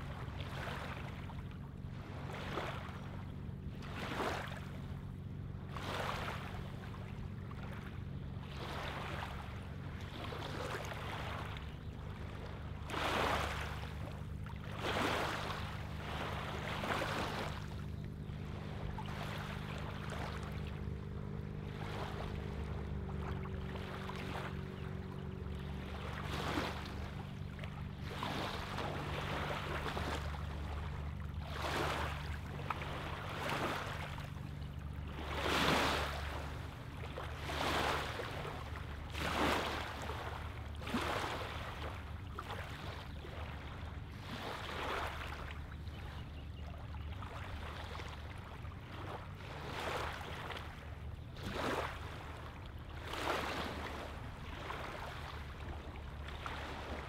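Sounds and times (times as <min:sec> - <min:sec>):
small waves lapping on pebbles: 0:00.0 - 0:46.1, 0:47.1 - 0:57.0
steady low hum: 0:00.0 - 0:57.0.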